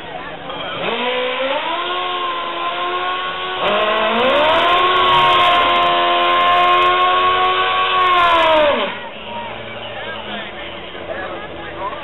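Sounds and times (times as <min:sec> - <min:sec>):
motorcycle engine revving hard: 0:00.4 - 0:10.2.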